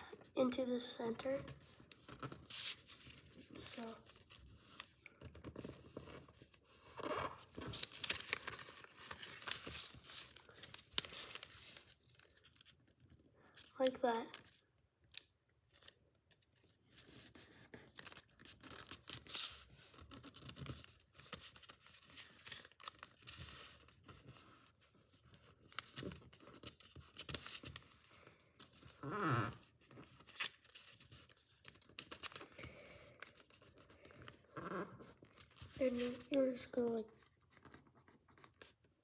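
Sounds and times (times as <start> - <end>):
paper being folded and creased: 0.7 - 39.0.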